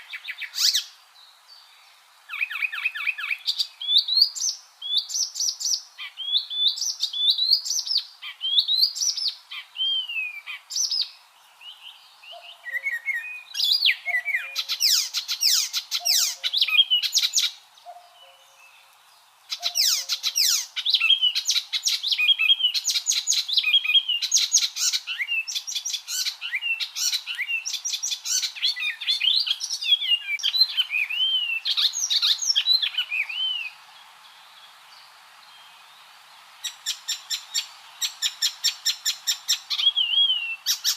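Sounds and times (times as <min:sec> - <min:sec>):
warbler singing: 0:00.0 - 0:40.9.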